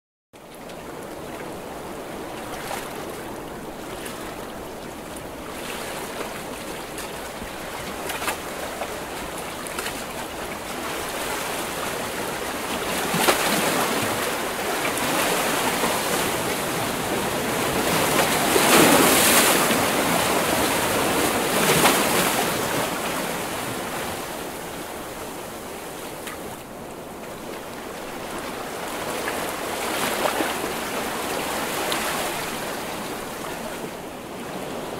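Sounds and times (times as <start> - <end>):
ocean waves breaking on shore: 0.4 - 34.9.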